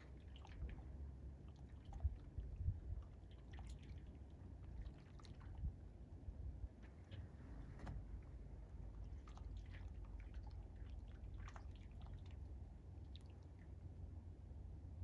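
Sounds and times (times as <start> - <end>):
small splashes and drips: 0.0 - 6.1, 8.0 - 14.0
seawater lapping at shore: 0.0 - 14.9
low steady rumble: 0.0 - 15.0.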